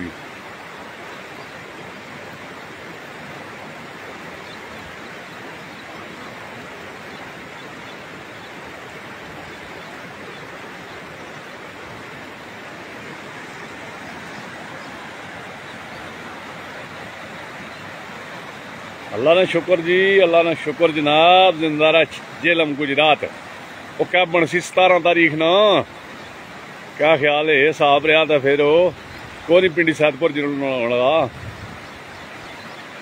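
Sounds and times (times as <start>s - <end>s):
river in flood rushing: 0.0s - 33.0s.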